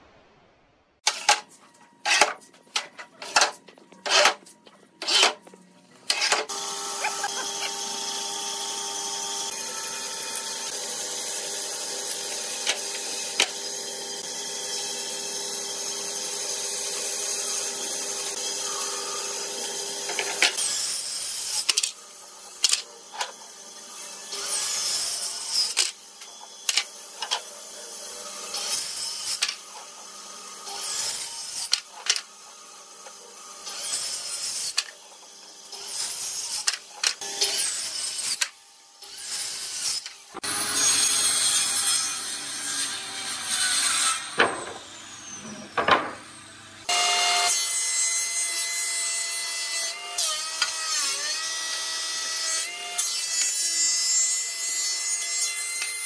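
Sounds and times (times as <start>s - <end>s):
mechanical hum: 1.0s - 53.0s
circular saw cutting wood: 1.0s - 56.0s.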